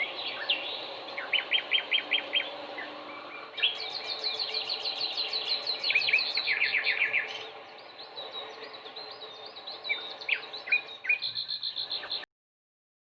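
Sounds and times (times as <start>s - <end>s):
steady background hum: 0.0s - 12.2s
small birds chirping: 0.0s - 12.3s.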